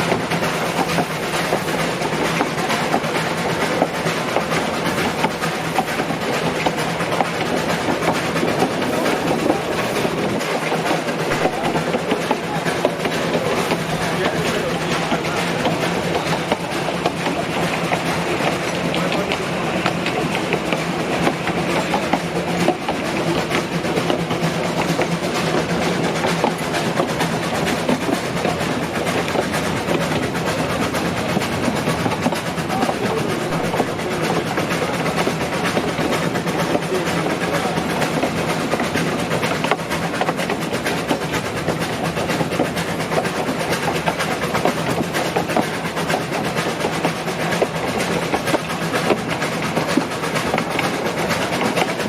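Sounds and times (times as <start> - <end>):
train rumble and hum: 0.0 - 52.0
wheels clattering on rails: 0.0 - 52.0.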